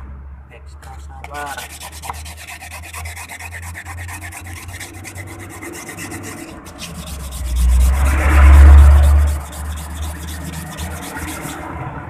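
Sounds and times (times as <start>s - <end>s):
scraping and sanding metal: 0.9s - 11.6s.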